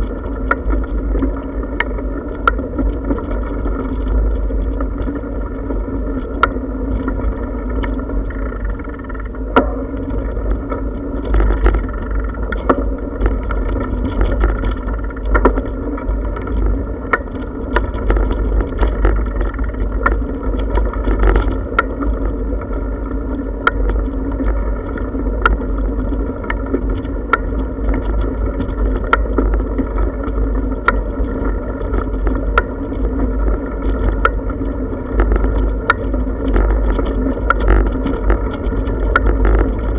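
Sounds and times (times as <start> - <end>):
bicycle rattling over brick paving: 0.0 - 39.9
wind buffeting microphone: 0.0 - 39.9.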